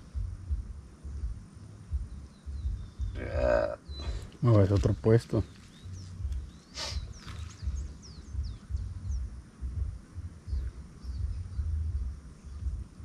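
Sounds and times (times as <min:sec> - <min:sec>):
birds chirping: 0:00.0 - 0:13.0
low rumbling thumps: 0:00.0 - 0:13.0.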